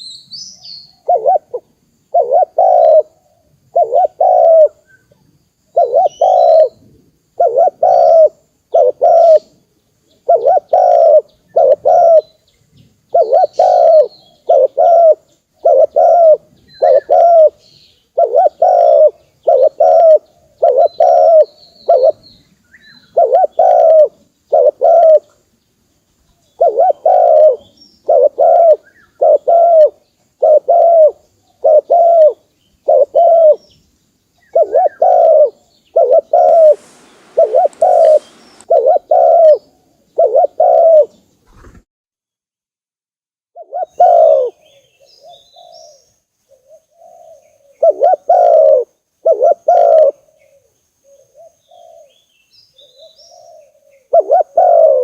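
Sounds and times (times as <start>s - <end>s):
small bird chirping: 0.0s - 6.8s, 7.4s - 41.8s, 43.6s - 55.0s
dove cooing: 0.9s - 4.8s, 5.7s - 9.6s, 10.2s - 12.3s, 13.1s - 17.6s, 18.2s - 22.2s, 23.0s - 25.4s, 26.6s - 33.6s, 34.4s - 41.7s, 43.6s - 52.2s, 52.8s - 55.0s.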